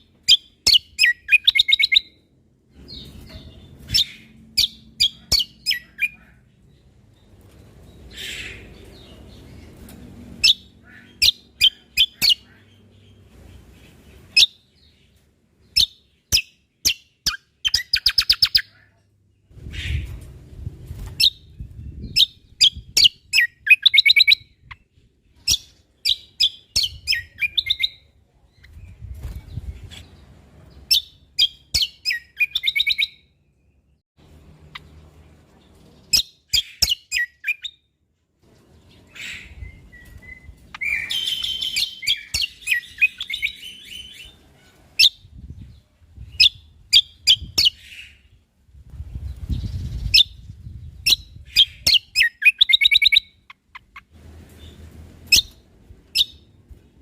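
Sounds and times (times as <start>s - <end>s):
bird chirping rapidly: 0.2s - 2.2s, 2.8s - 7.0s, 7.8s - 9.8s, 10.4s - 18.8s, 21.0s - 35.2s, 36.0s - 37.9s, 39.0s - 48.3s, 49.0s - 56.6s.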